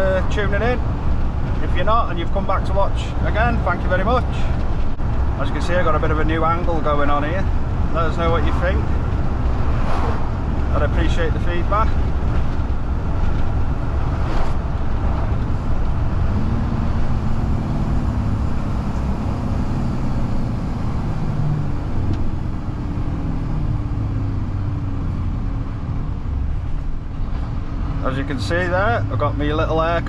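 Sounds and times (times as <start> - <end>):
lorry diesel engine rumble: 0.0 - 30.0.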